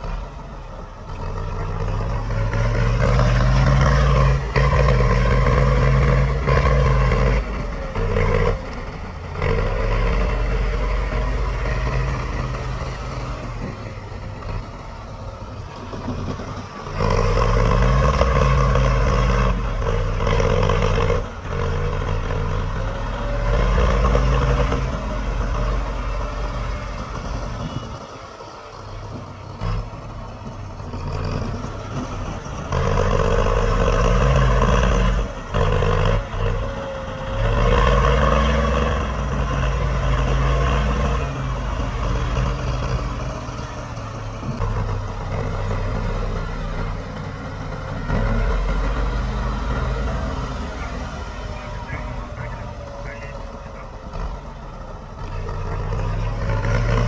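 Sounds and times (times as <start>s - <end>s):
diesel engine revving under load: 0.0s - 57.0s.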